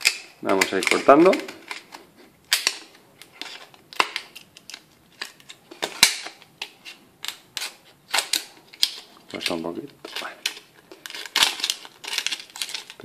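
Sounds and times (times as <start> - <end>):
scissors snipping plastic: 0.0 - 13.0.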